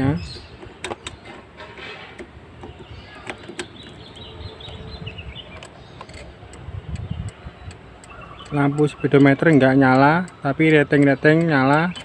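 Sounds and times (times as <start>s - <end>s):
bird chirping: 0.0s - 1.5s, 2.5s - 12.0s.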